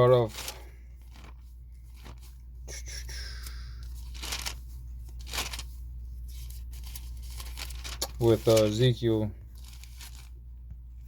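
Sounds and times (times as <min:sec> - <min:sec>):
paper rustling and crinkling: 0:00.0 - 0:02.5, 0:03.8 - 0:10.5
steady low hum: 0:00.0 - 0:11.0.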